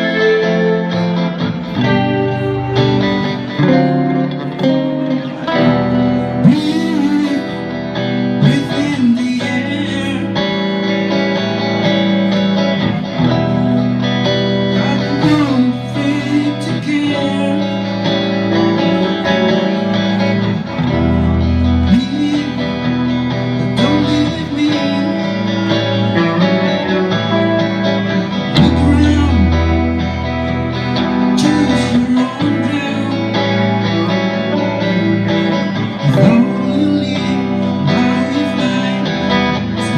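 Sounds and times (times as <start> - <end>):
song played on guitar: 0.0 - 39.9.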